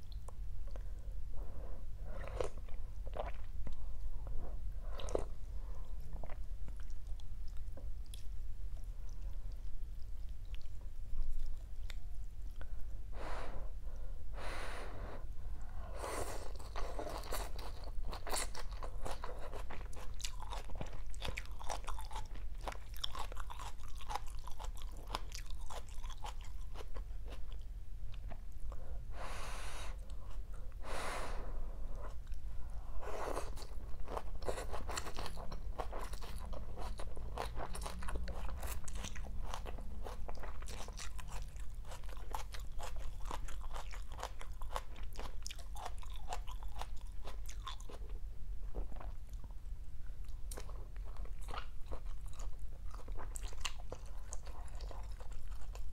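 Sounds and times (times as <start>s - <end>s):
chewing and crunching food: 2.0s - 12.8s, 15.6s - 28.8s, 33.1s - 55.9s.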